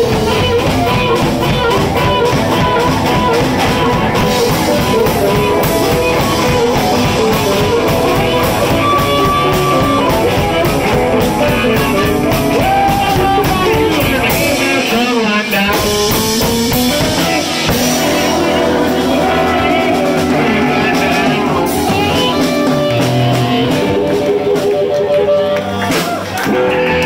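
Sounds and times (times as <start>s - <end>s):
bending electric guitar melody: 0.0s - 27.0s
blues band playing: 0.0s - 27.0s.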